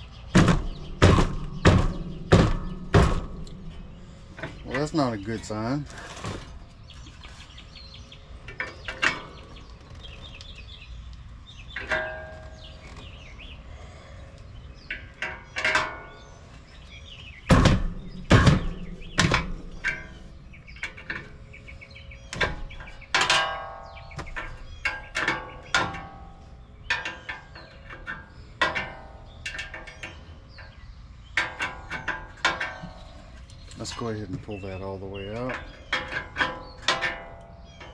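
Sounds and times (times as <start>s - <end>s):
metallic clanks and knocks: 0.0s - 10.7s, 11.5s - 13.5s, 14.7s - 37.9s.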